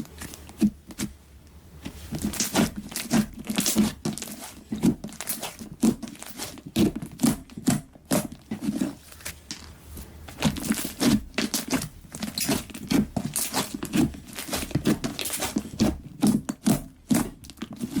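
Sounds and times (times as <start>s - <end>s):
slime squelching by hand: 1.8s - 18.0s.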